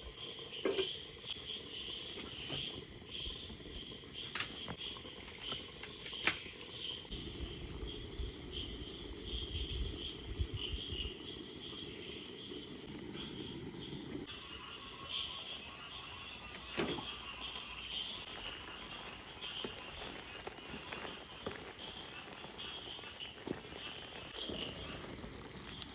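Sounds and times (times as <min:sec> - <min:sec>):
crickets chirping: 0:00.0 - 0:25.9.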